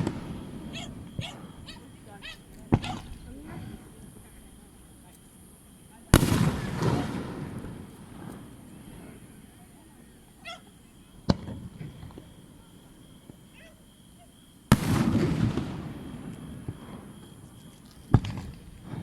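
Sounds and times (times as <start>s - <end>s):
fireworks bangs: 0.0s - 4.6s, 5.9s - 10.0s, 10.8s - 13.6s, 14.7s - 19.0s.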